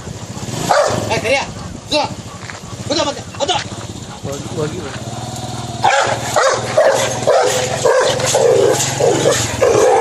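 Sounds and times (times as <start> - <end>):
dog barking aggressively: 0.3 - 10.0.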